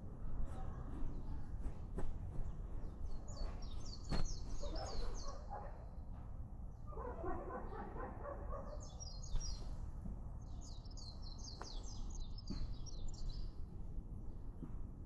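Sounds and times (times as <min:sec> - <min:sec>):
small birds chirping: 0:00.3 - 0:14.6.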